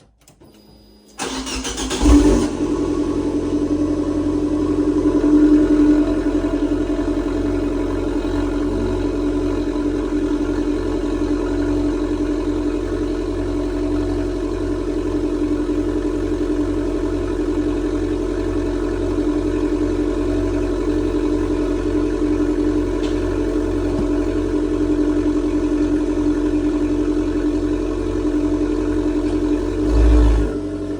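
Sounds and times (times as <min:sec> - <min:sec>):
car engine starting and idling: 0:00.0 - 0:30.9.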